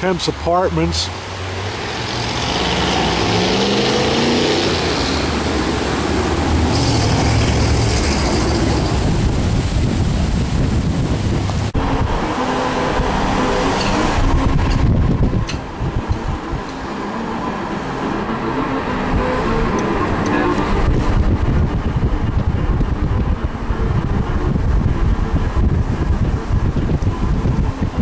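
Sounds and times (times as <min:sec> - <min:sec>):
car engine accelerating: 0:00.0 - 0:28.0
road rumble: 0:00.0 - 0:28.0.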